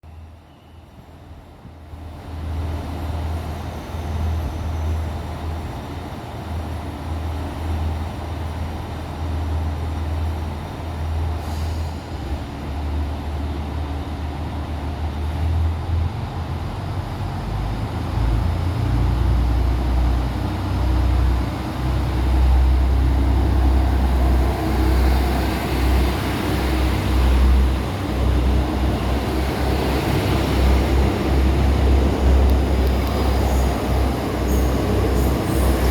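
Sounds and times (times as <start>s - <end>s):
railcar diesel engines rumbling: 0.0s - 35.9s.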